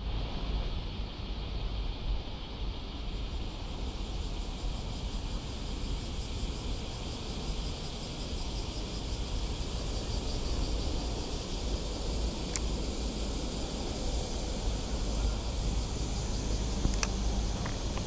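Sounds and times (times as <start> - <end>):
wind rumble on microphone: 0.0 - 18.0
high hiss: 1.6 - 18.0.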